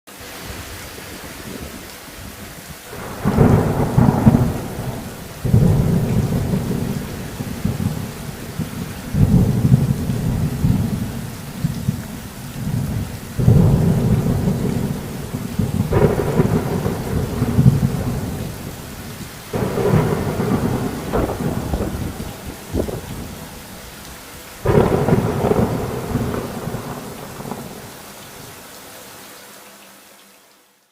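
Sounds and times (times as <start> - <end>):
steady rain falling: 0.1 - 30.9
thunder rumbles: 1.4 - 28.0.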